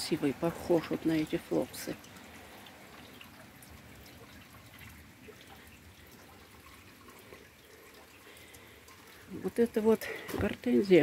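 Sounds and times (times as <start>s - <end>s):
light rain falling: 0.0s - 11.0s
small drips: 0.0s - 11.0s.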